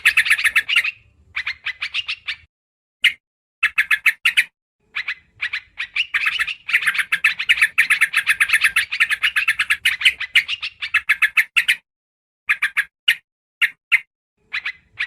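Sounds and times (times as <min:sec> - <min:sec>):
bird chattering: 0:00.0 - 0:11.8, 0:12.5 - 0:15.0.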